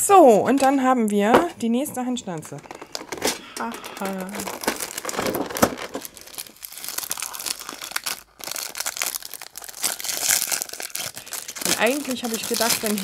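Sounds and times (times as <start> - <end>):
plastic packaging crinkling: 2.5 - 13.0.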